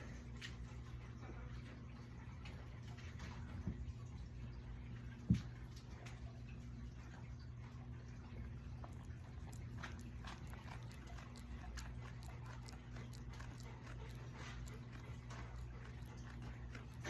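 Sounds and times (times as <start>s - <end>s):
animals stirring clicks and rustles: 0.0s - 17.0s
steady low hum: 0.0s - 17.0s.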